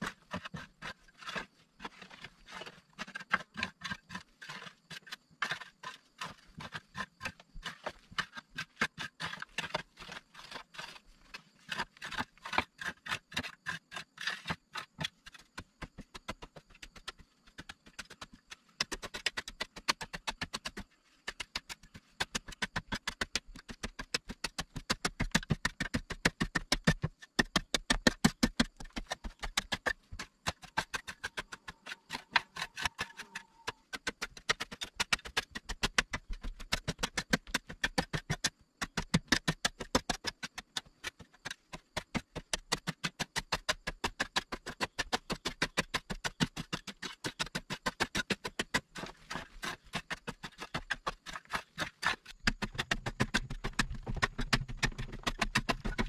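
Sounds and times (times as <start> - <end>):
digging tool scraping earth: 0.0 - 56.0.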